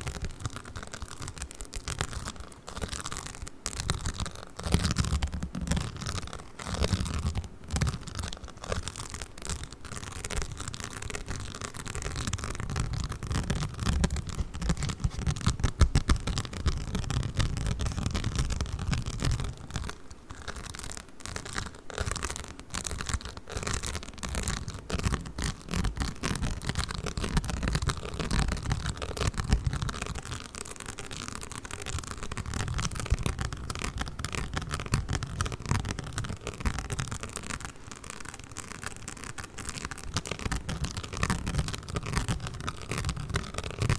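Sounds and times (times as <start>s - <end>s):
modelling foam crackling and squishing: 0.0s - 43.9s.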